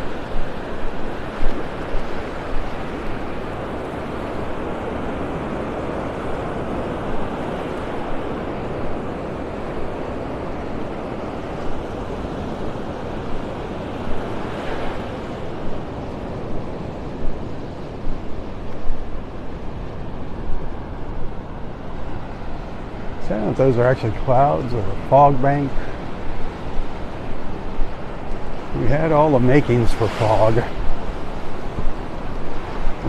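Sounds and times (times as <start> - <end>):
waves washing up sand: 0.0 - 33.0
wind gusts on microphone: 0.0 - 33.0.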